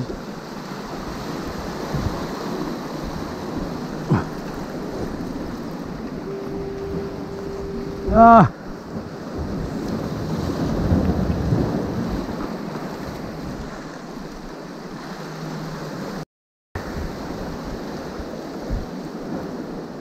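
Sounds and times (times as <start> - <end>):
waves breaking against rocks: 0.0 - 16.2, 16.8 - 20.0
wind buffeting microphone: 0.0 - 16.2, 16.8 - 20.0.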